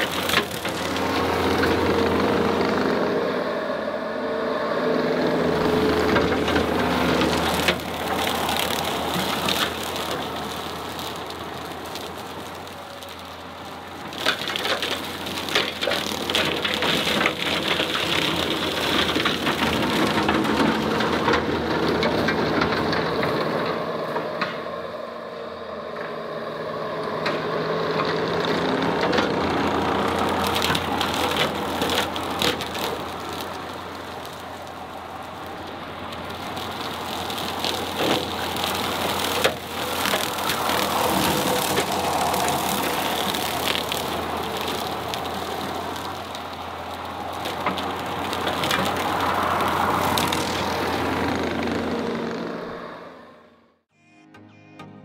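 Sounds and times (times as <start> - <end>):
sharp cracks and knocks: 0.0 - 2.0, 5.6 - 24.7, 28.0 - 51.9
heavy diesel engine running: 0.0 - 53.6.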